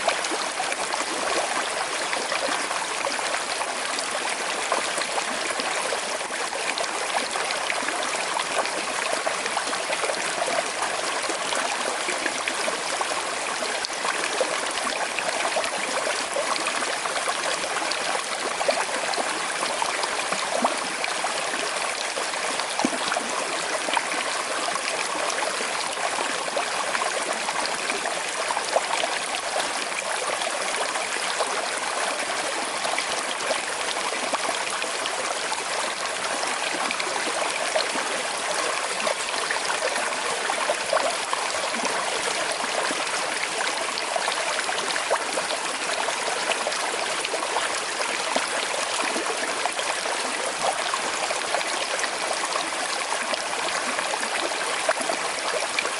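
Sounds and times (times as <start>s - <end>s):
river babbling over stones: 0.0s - 55.9s.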